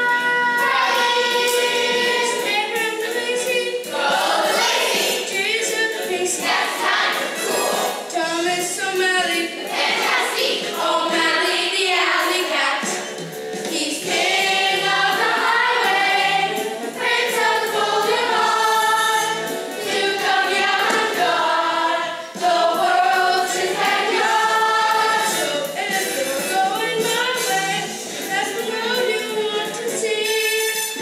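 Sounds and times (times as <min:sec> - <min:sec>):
musical accompaniment: 0:00.0 - 0:31.0
children singing: 0:00.1 - 0:08.1, 0:09.2 - 0:13.0, 0:13.7 - 0:30.4.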